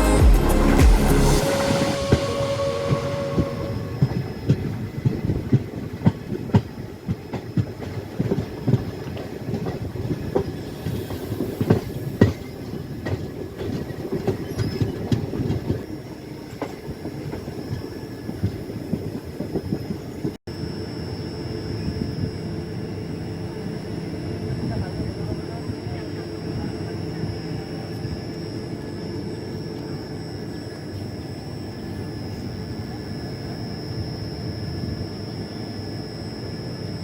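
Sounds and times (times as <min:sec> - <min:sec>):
faint high whine: 0:00.0 - 0:06.0, 0:09.9 - 0:37.0.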